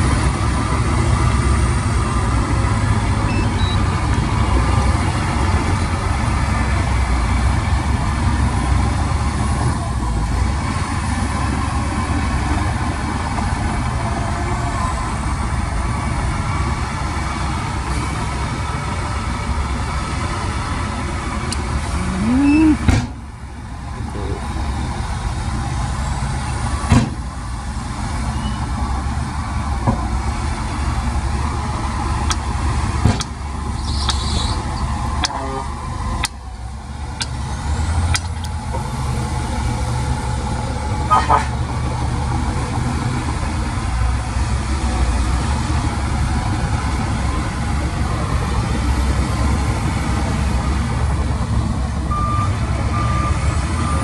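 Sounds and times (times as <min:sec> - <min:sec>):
diesel machinery engine droning: 0:00.0 - 0:54.0.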